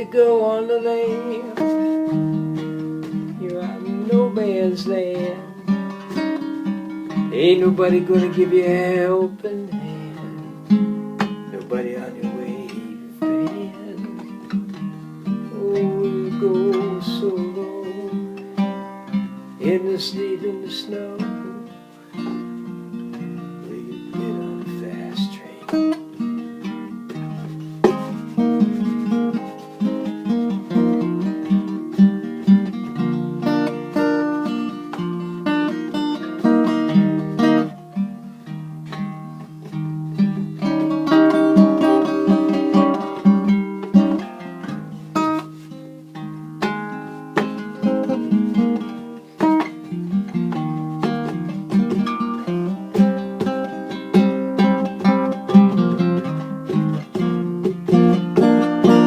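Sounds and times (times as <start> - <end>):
acoustic guitar strumming and picking: 0.0 - 59.0.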